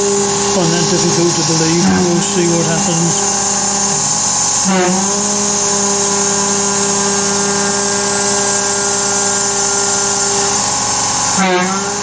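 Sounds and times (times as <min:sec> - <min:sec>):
milling spindle whine: 0:00.0 - 0:12.0.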